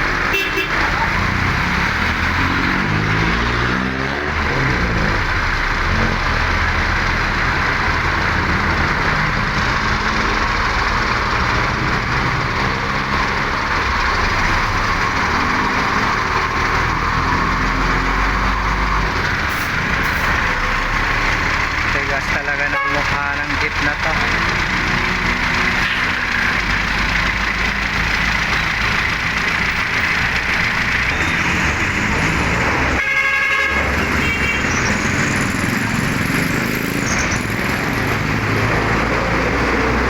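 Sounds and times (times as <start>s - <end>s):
road noise rushing: 0.0s - 40.0s
truck and car engines passing: 0.0s - 40.0s.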